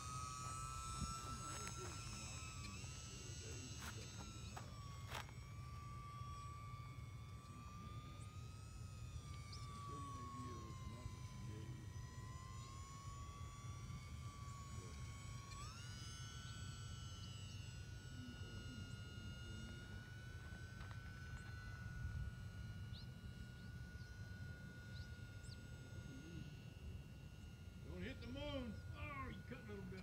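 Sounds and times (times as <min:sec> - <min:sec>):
electric motor and propeller whining: 0:00.0 - 0:30.0.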